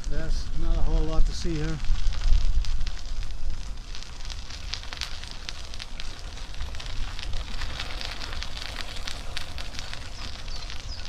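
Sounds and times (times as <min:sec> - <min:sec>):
crackle of small ticks: 0:00.0 - 0:11.0
wind rumble on microphone: 0:00.0 - 0:11.0.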